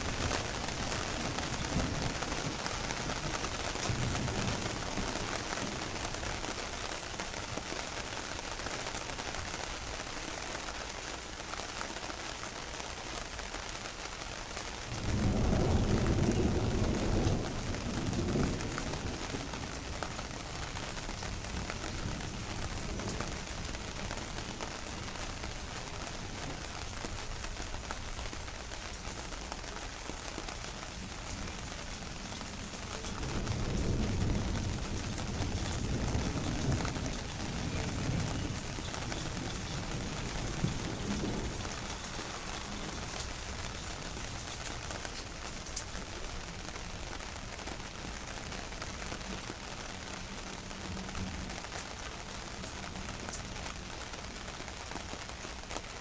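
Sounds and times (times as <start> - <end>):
thunder rumbling: 0.0 - 7.7, 14.8 - 55.3
rain falling: 0.0 - 56.0.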